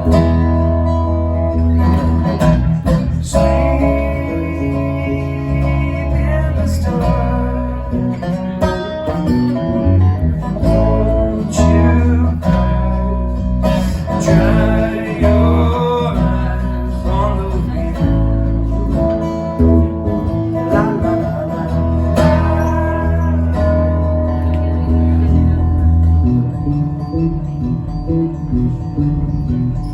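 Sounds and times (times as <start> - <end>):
electric guitar: 0.0 - 29.9
steady bass: 0.0 - 29.9
person singing: 1.7 - 25.8.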